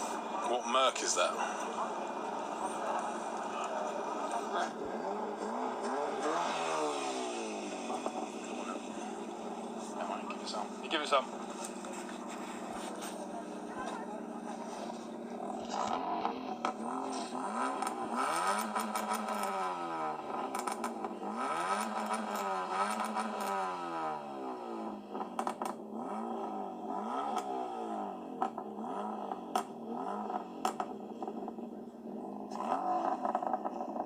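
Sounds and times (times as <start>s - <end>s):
car engine revving: 0.0s - 34.0s
exhaust crackles: 0.0s - 34.0s.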